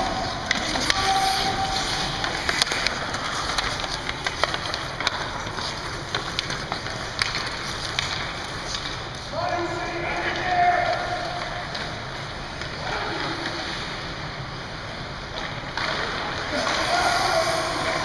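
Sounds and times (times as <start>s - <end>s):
hockey sticks and puck clacking: 0.0s - 18.0s
skate blades scraping ice: 0.0s - 18.0s
steady rink noise: 0.0s - 18.0s.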